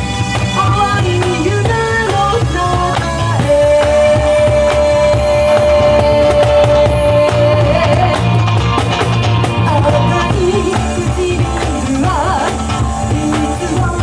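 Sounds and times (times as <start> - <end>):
bass line: 0.0 - 14.0
cajon beats: 0.0 - 14.0
electric guitar: 0.0 - 14.0
woman singing: 0.6 - 8.5, 9.6 - 14.0.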